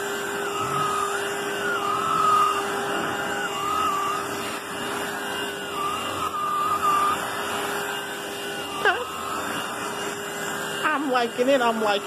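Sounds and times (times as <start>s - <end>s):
hand vacuum humming and whining: 0.0s - 12.0s.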